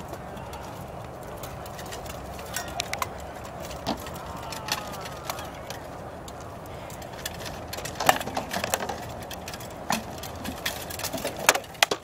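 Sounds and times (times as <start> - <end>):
armour and shields clinking: 0.0 - 12.0.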